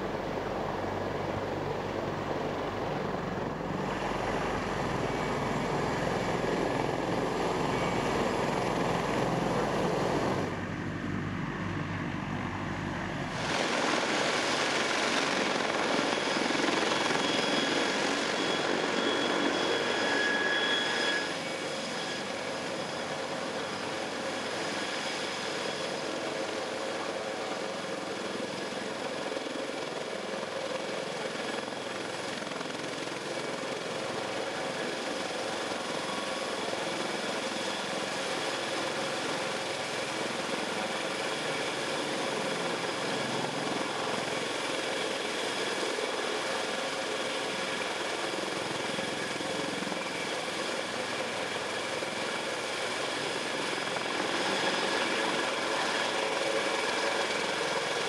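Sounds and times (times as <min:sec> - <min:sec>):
helicopter engines and rotor: 0:00.0 - 0:58.0.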